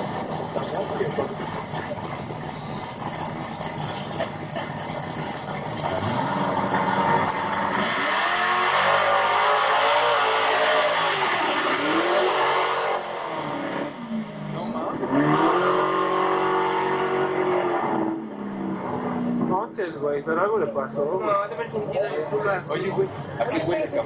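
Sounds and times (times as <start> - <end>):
muscle car engine accelerating: 0.0 - 24.0.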